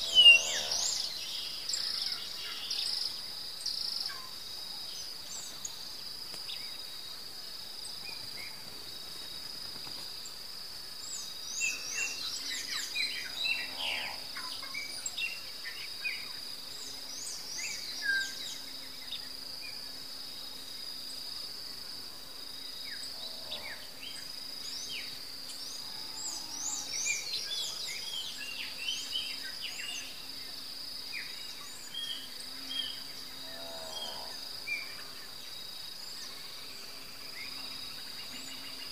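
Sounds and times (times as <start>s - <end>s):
high-pitched insect trill: 0.0s - 38.9s.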